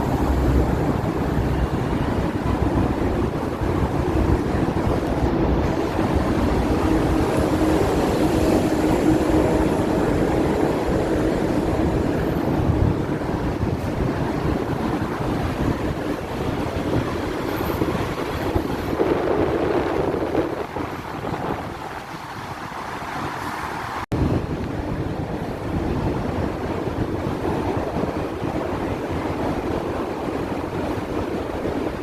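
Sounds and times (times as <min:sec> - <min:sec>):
tram rumbling on rails: 0:00.0 - 0:32.0
wind buffeting microphone: 0:00.0 - 0:32.0.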